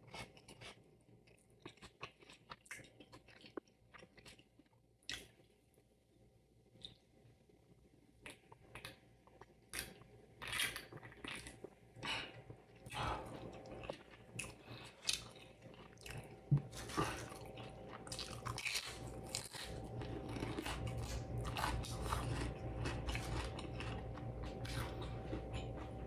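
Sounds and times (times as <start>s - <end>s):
chewing food: 0.0s - 5.6s, 8.2s - 26.0s.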